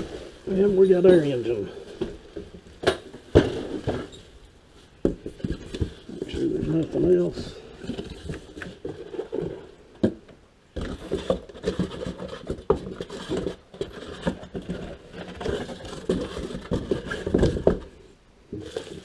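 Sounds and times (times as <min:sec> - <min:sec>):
cardboard scraping and rustling: 0:00.0 - 0:09.8, 0:10.8 - 0:19.0.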